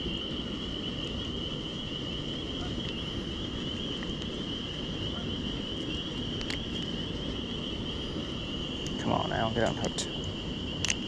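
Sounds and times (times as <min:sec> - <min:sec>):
low rumbling noise: 0:00.0 - 0:11.0
night insects trilling: 0:00.0 - 0:11.0.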